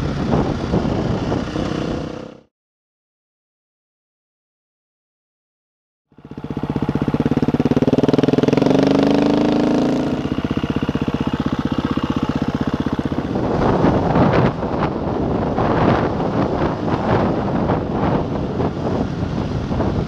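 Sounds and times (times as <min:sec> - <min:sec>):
motorcycle engine accelerating: 0:00.0 - 0:02.5, 0:06.1 - 0:20.0
rumble of wind and gravel: 0:00.0 - 0:02.5, 0:06.1 - 0:20.0.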